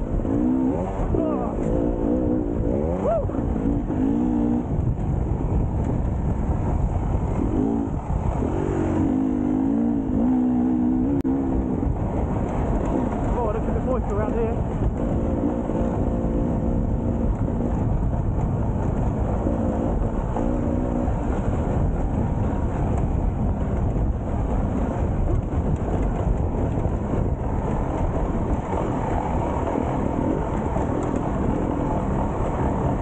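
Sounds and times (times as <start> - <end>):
motorbike engine running: 0.0 - 33.0
wind and riding noise: 0.0 - 33.0.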